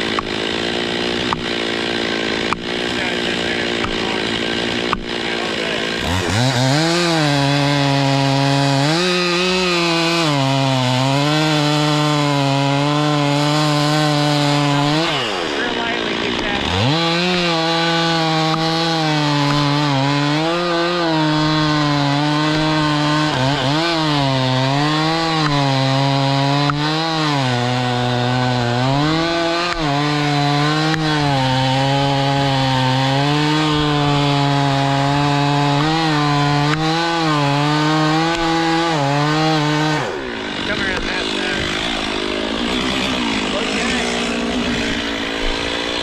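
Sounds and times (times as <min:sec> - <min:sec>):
chainsaw cutting wood: 0:00.0 - 0:46.0.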